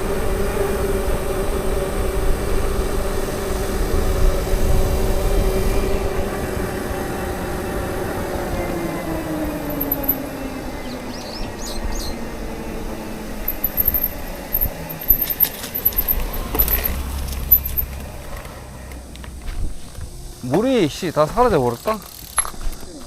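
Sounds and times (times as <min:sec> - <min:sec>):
motor vehicle passing: 0:00.0 - 0:22.7.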